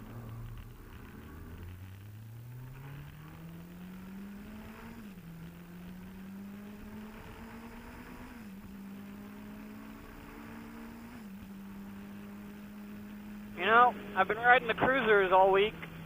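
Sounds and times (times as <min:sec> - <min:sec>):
muffled motorcycle engine accelerating: 0:00.0 - 0:16.0.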